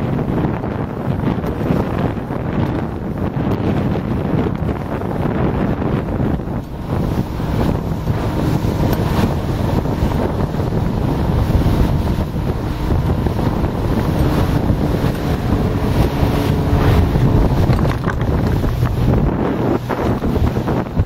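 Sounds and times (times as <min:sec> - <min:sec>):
motorboat engine drone: 0:00.0 - 0:21.0
rush of boat wake: 0:00.0 - 0:21.0
wind buffeting microphone: 0:00.0 - 0:21.0.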